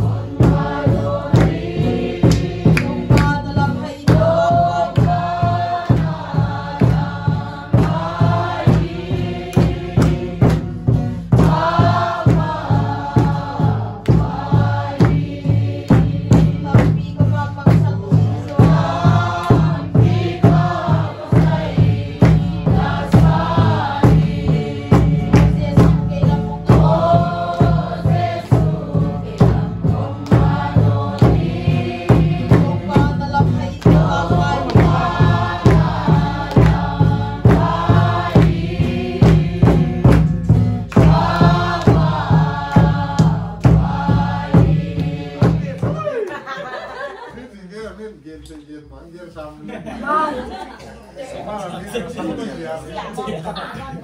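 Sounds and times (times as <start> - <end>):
steady beat: 0.0 - 46.8
group of voices singing: 0.0 - 47.4.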